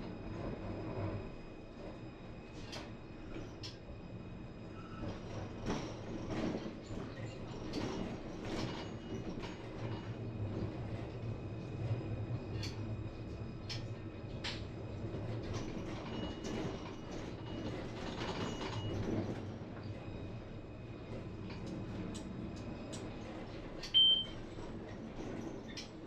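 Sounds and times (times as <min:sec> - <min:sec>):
tram running hum: 0:00.0 - 0:26.0.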